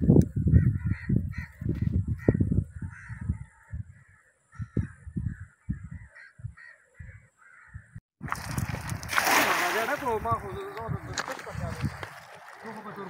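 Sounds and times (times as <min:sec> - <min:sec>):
wind buffeting microphone: 0:00.0 - 0:13.0
birds calling: 0:00.3 - 0:08.0, 0:09.8 - 0:13.0.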